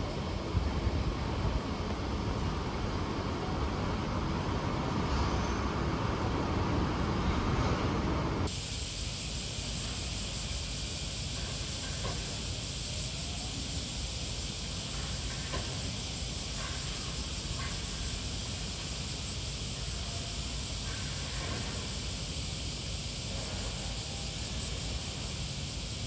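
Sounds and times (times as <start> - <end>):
even hiss: 0.0 - 26.0.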